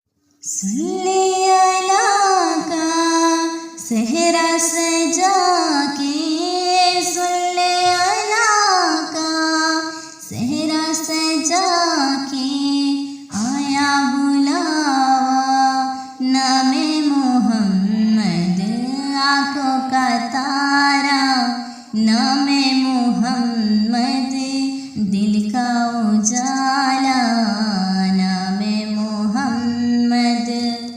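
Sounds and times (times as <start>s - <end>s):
person singing devotional song: 0.4s - 30.9s.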